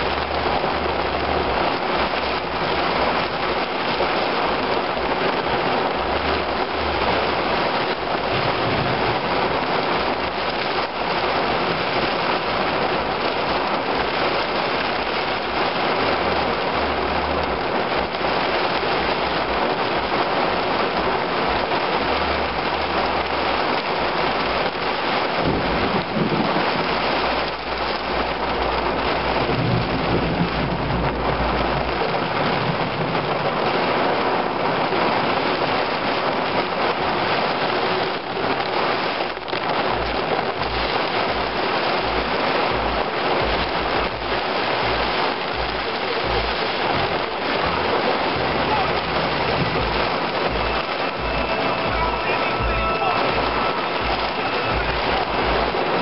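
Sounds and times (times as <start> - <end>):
deep thunder rumble: 0.0 - 24.6, 25.2 - 35.6, 39.3 - 56.0
heavy rain hiss: 0.0 - 56.0.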